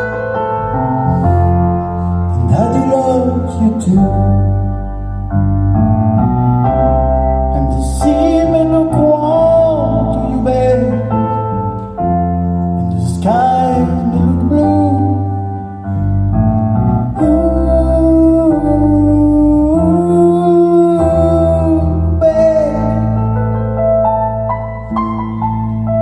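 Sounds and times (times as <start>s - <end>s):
person singing melody: 0.0s - 5.4s, 7.3s - 16.3s, 16.9s - 23.8s
piano chords: 0.0s - 26.0s
sustained deep bass: 0.0s - 26.0s.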